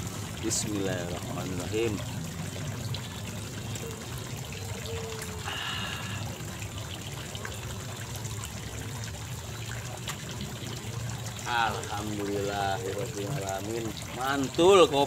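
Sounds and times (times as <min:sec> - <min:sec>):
running water trickling: 0:00.0 - 0:15.0.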